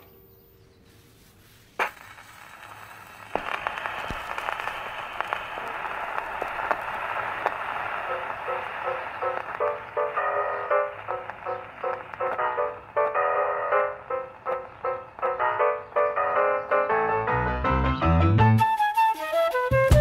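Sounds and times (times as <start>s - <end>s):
vinyl crackling hiss with pops: 0.8s - 17.0s.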